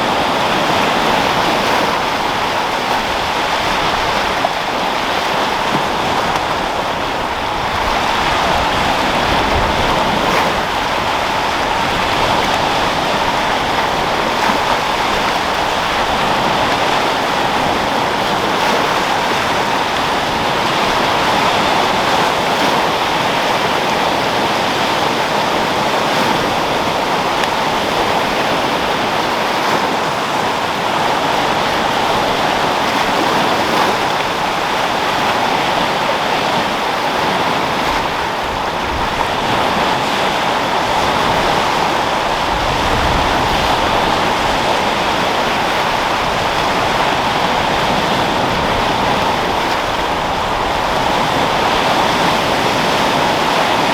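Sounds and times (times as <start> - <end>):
sea waves breaking: 0.0 - 53.9
wind: 0.0 - 53.9
wind rumble on microphone: 0.0 - 53.9.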